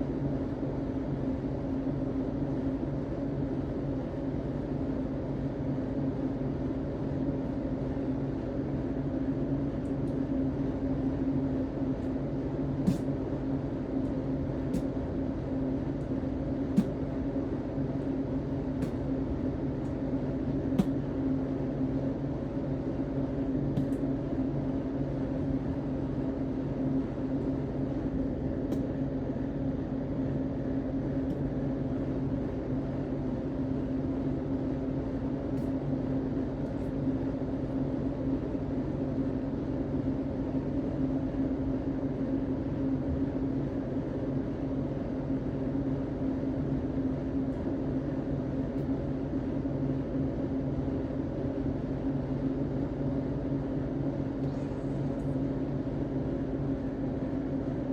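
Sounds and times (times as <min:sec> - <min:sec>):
steady mechanical hum: 0:00.0 - 0:57.9.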